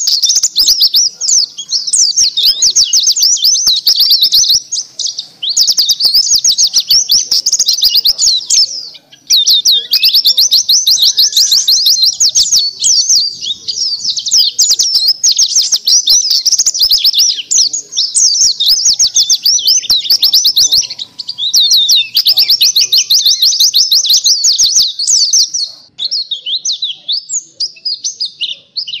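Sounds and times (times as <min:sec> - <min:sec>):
white-eye bird singing twittering song: 0:00.0 - 0:29.0.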